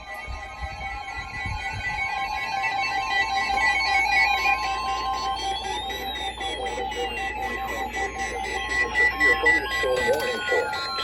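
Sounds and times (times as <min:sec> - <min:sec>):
gliding synthesizer tones: 0:00.0 - 0:11.0
pulsing synthesizer note: 0:00.0 - 0:11.0.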